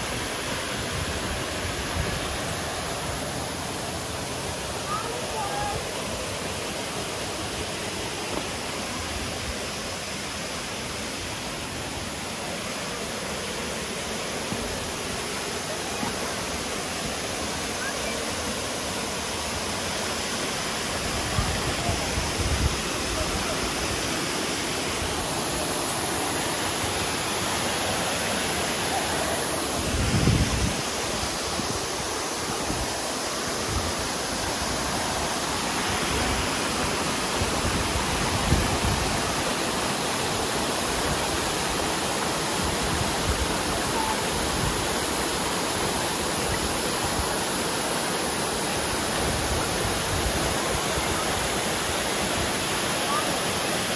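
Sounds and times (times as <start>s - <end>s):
fast-flowing water rushing: 0.0s - 53.9s.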